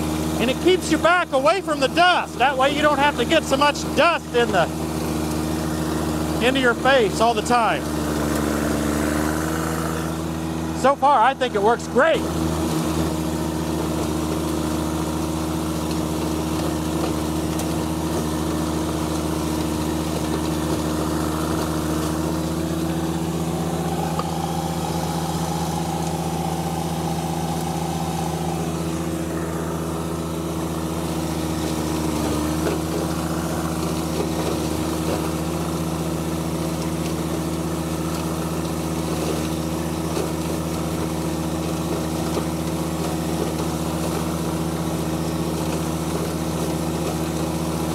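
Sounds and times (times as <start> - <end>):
diesel tractor running: 0.0 - 47.9
flail mower cutting corn stalks: 0.0 - 47.9.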